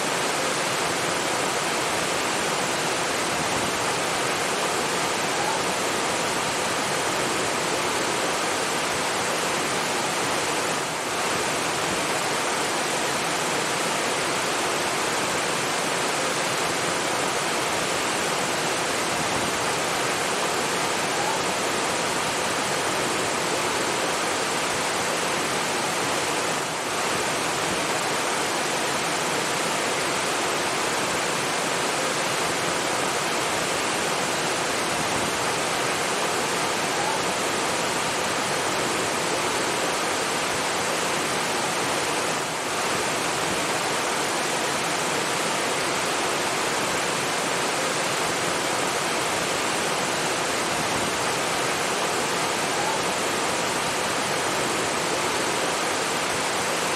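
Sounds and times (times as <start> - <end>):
falling water rushing: 0.0 - 56.9.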